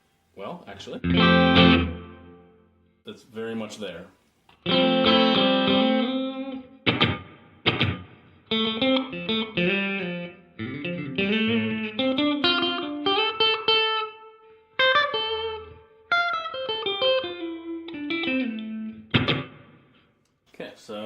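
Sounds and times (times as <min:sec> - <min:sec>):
electric guitar with reverb: 0:00.9 - 0:03.0, 0:04.6 - 0:20.1.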